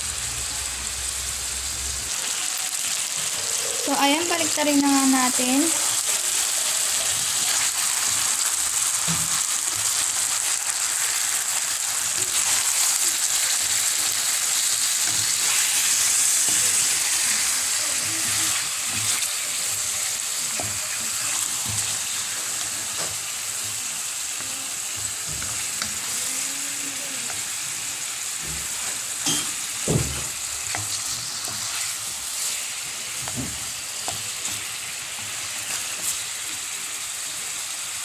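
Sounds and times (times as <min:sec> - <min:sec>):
chicken sizzling in hot oil: 0:00.0 - 0:38.0.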